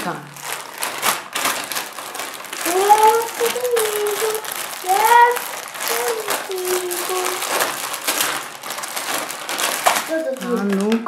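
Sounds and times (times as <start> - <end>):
packaging bag crinkling: 0.0 - 11.0.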